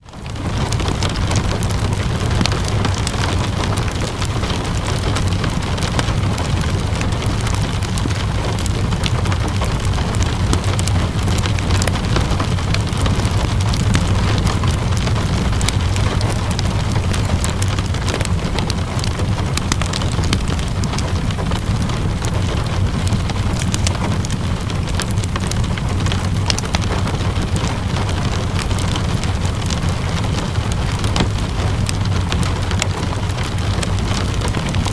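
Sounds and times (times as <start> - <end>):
steady rain: 0.0 - 34.9
wood fire crackling and popping: 0.0 - 34.9
low rumble: 0.1 - 34.9.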